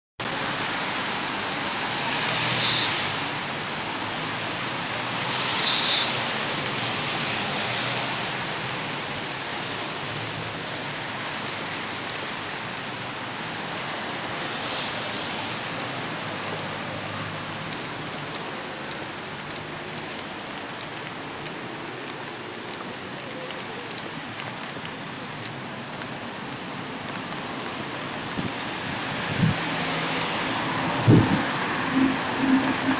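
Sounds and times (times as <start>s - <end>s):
heavy wet snow falling: 0.2s - 32.9s.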